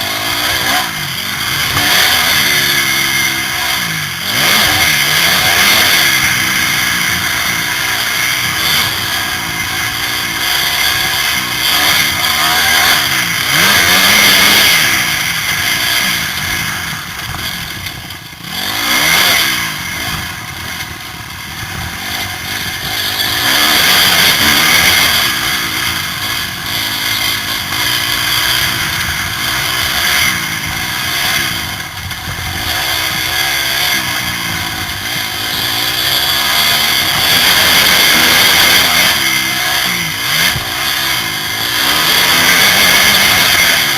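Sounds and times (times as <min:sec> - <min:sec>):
motocross engine revving: 0:00.0 - 0:43.9.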